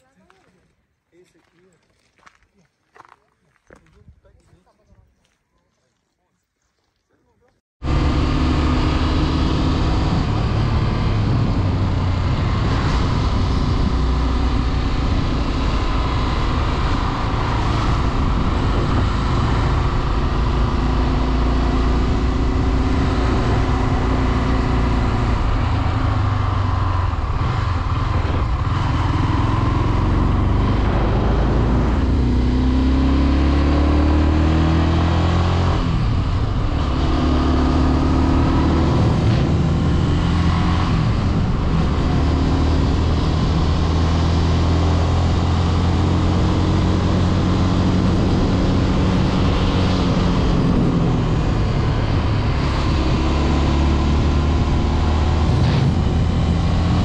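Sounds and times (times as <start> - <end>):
motorcycle engine accelerating: 7.8 - 57.0.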